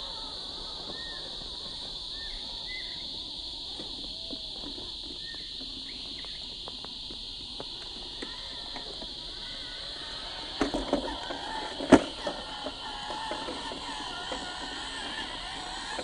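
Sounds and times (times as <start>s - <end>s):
high buzzing drone of insects: 0.0s - 16.0s.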